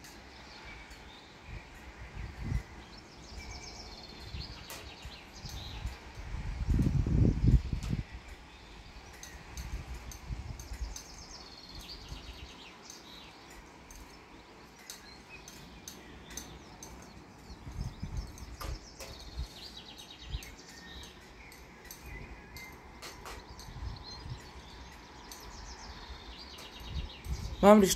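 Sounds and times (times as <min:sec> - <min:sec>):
birds chirping in trills: 0:00.0 - 0:27.9
wind buffeting microphone: 0:00.0 - 0:27.9.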